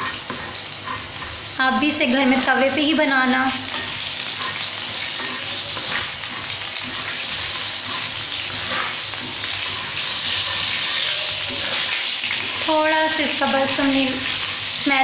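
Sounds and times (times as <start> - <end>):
spatula scraping griddle: 0.0 - 2.8, 3.6 - 14.8
seeds sizzling in hot oil: 0.0 - 15.0.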